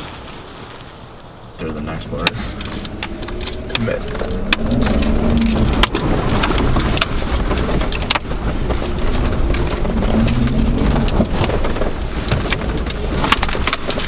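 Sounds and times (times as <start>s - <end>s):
car engine rumbling: 0.0s - 14.0s
knocks and rattles in vehicle: 1.6s - 14.0s.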